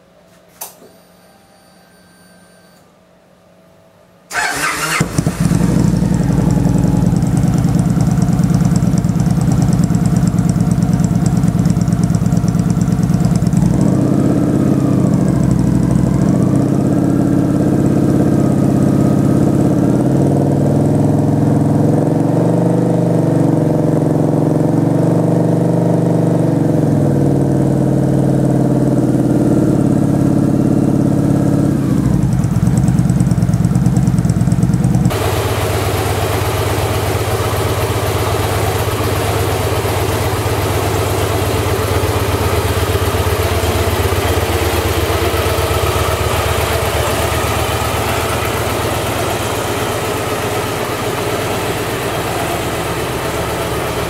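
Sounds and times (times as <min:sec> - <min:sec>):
motorcycle engine starting and idling: 0:04.3 - 0:54.0.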